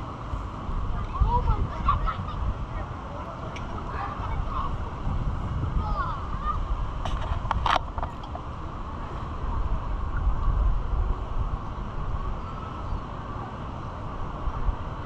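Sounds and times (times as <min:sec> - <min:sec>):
outdoor background noise: 0:00.0 - 0:15.0
wind buffeting microphone: 0:00.0 - 0:15.0.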